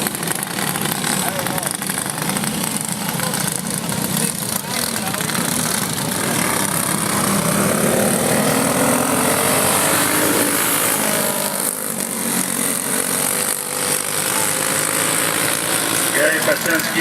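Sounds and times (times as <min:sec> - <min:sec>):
go-kart engines racing: 0:00.0 - 0:17.0.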